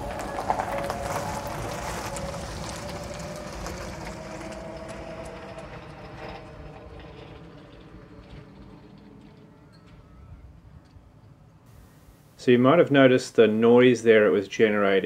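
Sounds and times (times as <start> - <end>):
tyre noise on road: 0.0 - 12.9.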